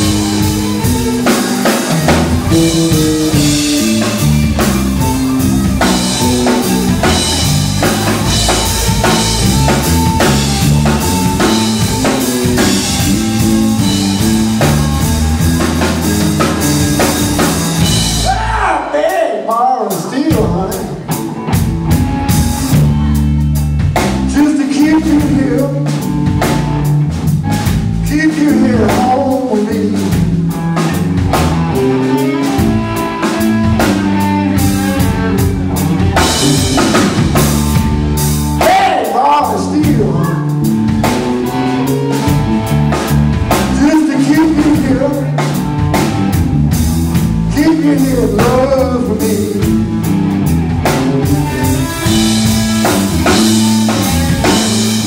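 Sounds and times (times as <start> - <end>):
blues band playing: 0.0 - 55.0.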